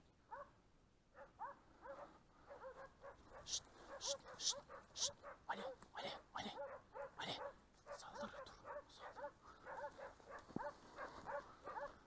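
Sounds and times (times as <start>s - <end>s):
distant dogs barking: 0.2s - 12.0s.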